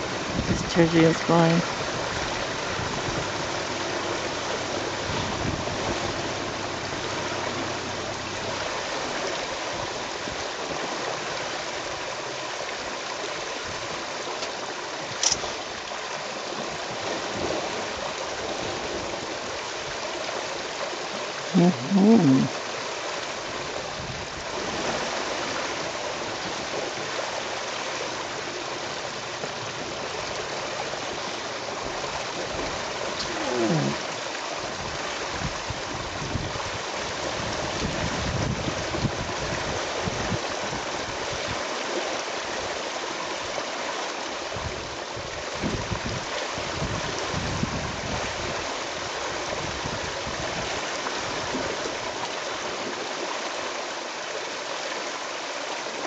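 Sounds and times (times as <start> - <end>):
rain and river water rushing: 0.0 - 56.0.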